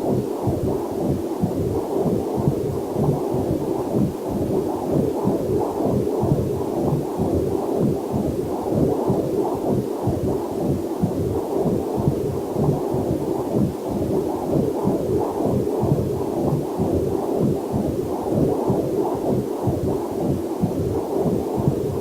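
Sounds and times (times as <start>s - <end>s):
fetal heartbeat on doppler monitor: 0.0s - 22.0s.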